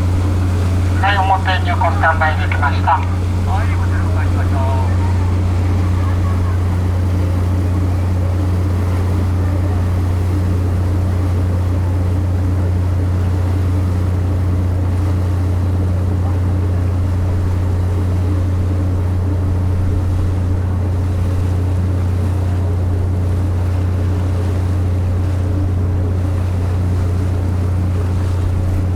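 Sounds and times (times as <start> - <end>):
ship engine drone: 0.0 - 28.9
wind and water noise: 0.0 - 28.9.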